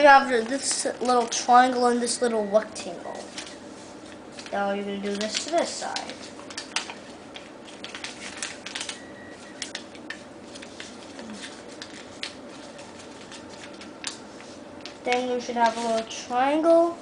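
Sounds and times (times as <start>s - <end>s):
paper rustling and crinkling: 0.2s - 17.0s.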